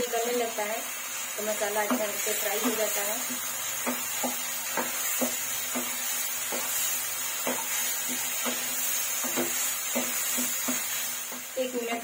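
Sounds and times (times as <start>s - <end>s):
masala sizzling in oil: 0.0s - 12.0s
wooden spatula scraping a pan: 1.8s - 12.0s.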